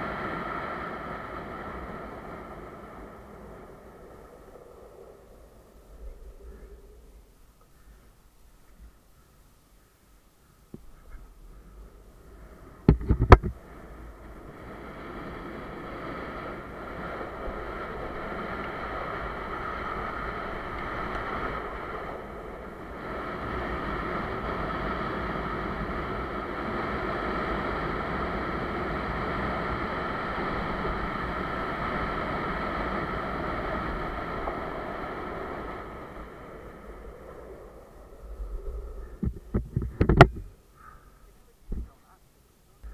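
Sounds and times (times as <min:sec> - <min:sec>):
longboard wheels rolling on asphalt: 0:00.0 - 0:40.9.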